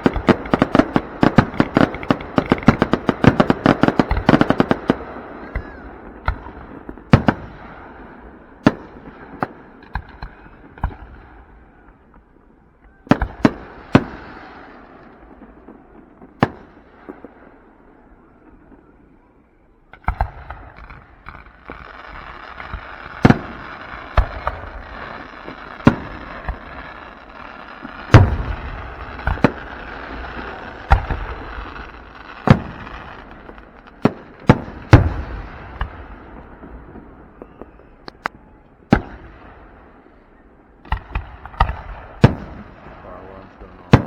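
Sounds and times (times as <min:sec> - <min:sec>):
fireworks bangs: 0:00.0 - 0:12.2, 0:12.8 - 0:19.3, 0:19.9 - 0:44.0.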